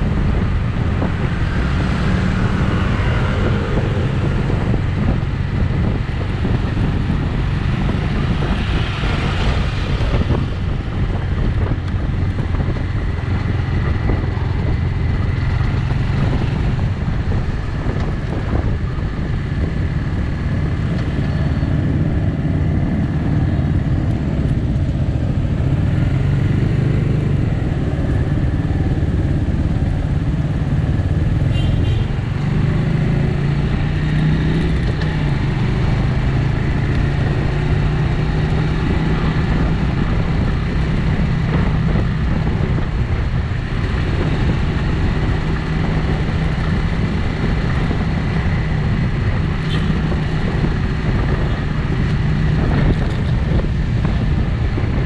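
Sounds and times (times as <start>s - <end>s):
motorcycle engine cruising: 0.0s - 55.0s
road noise: 0.0s - 55.0s.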